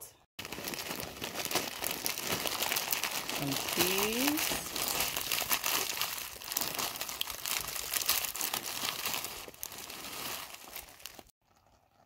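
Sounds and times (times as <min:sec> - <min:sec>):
frozen peas ticking: 0:00.4 - 0:11.3
plastic bag crinkling: 0:00.4 - 0:11.3.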